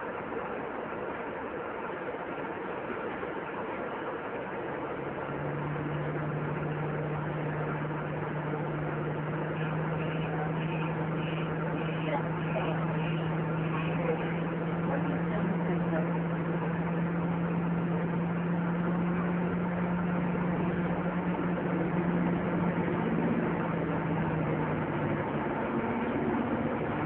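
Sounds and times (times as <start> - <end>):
bus engine humming: 0.0 - 27.0
road and cabin noise: 0.0 - 27.0.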